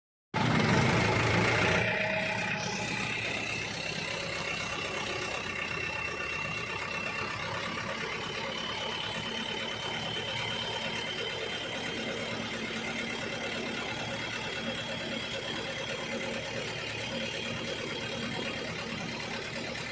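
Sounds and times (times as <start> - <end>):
diesel engine running: 0.4 - 19.9
faint high whine: 0.6 - 18.6.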